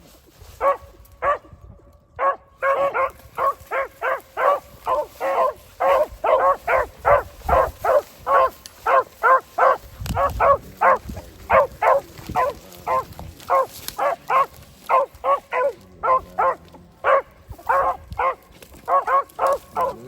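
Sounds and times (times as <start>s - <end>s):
beagle baying: 2.2s - 20.0s.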